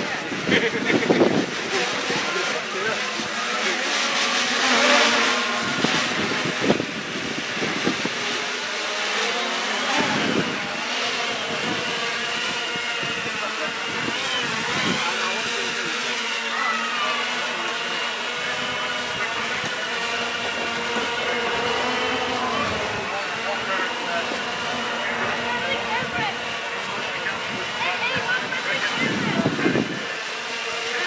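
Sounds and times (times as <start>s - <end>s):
drone propellers buzzing: 0.0s - 31.0s.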